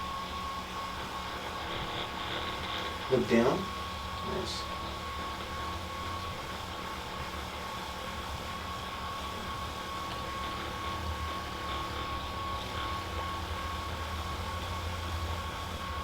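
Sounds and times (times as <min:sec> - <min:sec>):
air conditioning hum and whine: 0:00.0 - 0:16.0.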